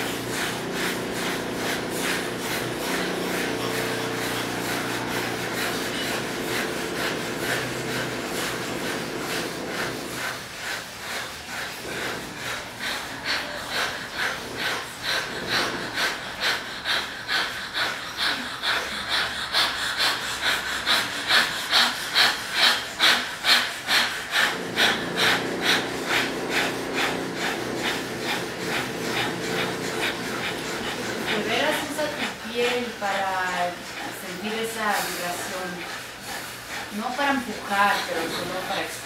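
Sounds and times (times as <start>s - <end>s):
group breathing rhythmically: 0.0s - 39.0s.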